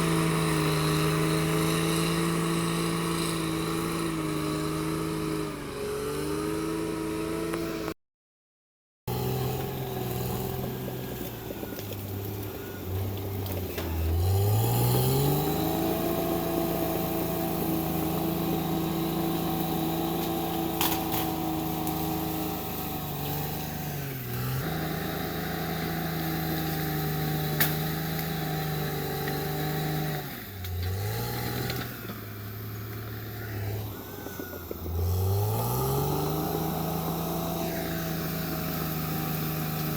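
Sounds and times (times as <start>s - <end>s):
bulldozer diesel engine revving: 0.0s - 8.0s, 9.1s - 39.9s.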